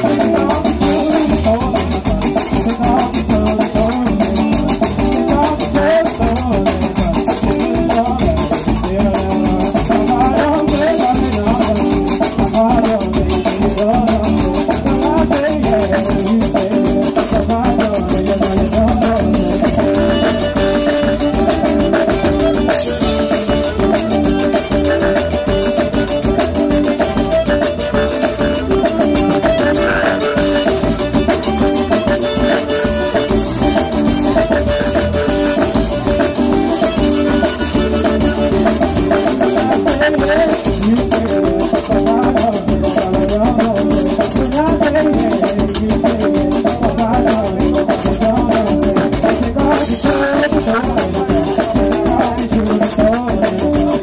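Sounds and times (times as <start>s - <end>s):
live zydeco band music: 0.0s - 54.0s
rubboard scraping rhythm: 0.0s - 54.0s.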